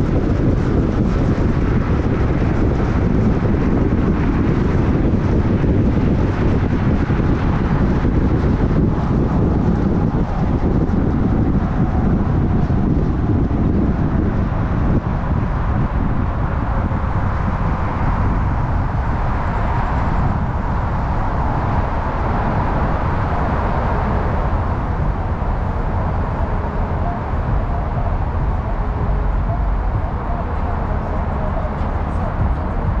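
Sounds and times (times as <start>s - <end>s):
car road and tyre noise: 0.0s - 33.0s.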